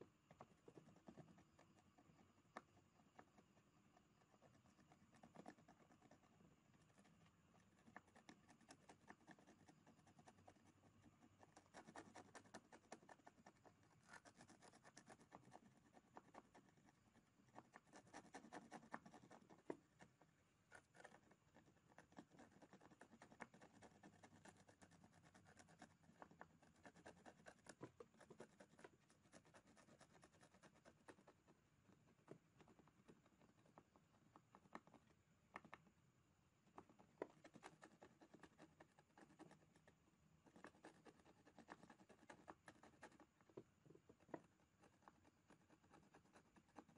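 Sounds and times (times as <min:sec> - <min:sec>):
scratching on circuit board: 0:00.3 - 0:31.5, 0:37.1 - 0:43.4, 0:44.1 - 0:46.9.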